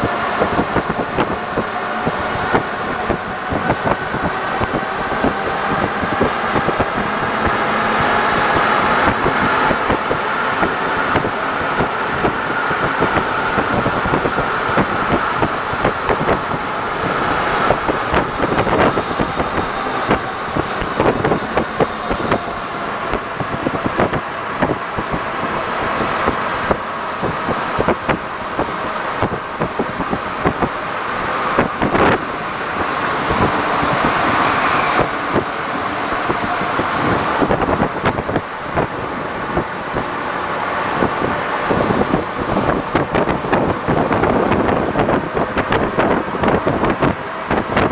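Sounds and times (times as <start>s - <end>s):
train clicks and knocks: 0.0s - 47.9s
train rolling noise: 0.0s - 47.9s.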